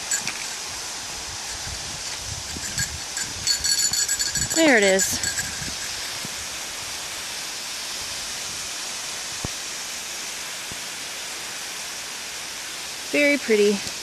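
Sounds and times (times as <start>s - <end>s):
waterfall pouring onto rock: 0.0s - 14.0s.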